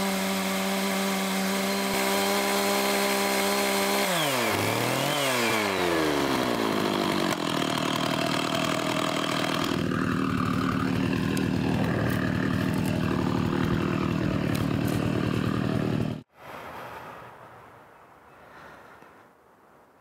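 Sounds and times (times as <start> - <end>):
chainsaw idling: 0.0 - 16.3.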